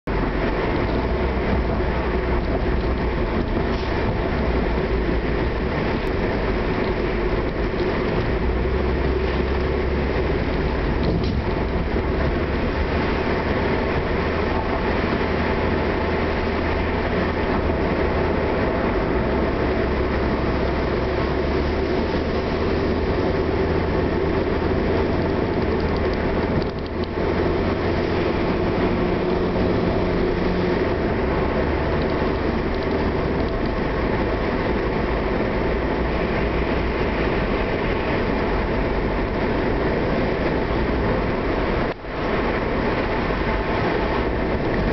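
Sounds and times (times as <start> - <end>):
car engine running: 0.0 - 44.9
tyre and road rumble: 0.0 - 44.9.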